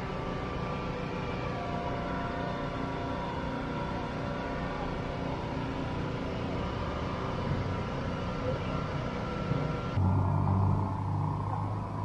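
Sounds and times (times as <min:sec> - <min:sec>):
low mechanical hum with tones: 0:00.0 - 0:12.0
outdoor market din: 0:00.0 - 0:12.0.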